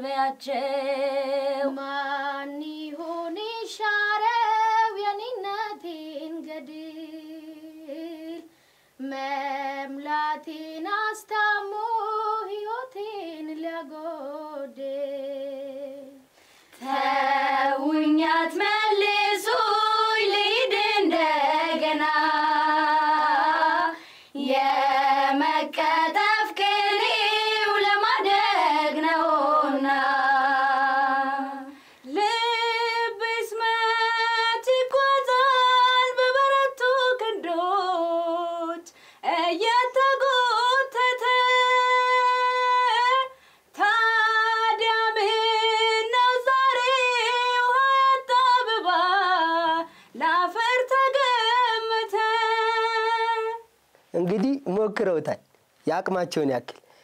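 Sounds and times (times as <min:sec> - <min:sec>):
women singing unaccompanied: 0:00.0 - 0:53.8.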